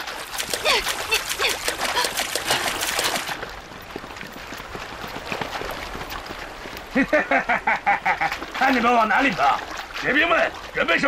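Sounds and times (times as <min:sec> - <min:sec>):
feet splashing through river: 0:00.0 - 0:11.0
flowing water: 0:00.0 - 0:11.0.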